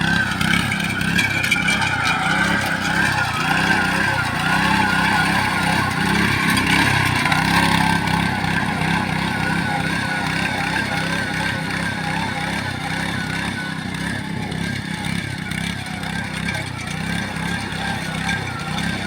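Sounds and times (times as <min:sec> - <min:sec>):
harvesting machine engine running: 0:00.0 - 0:19.0.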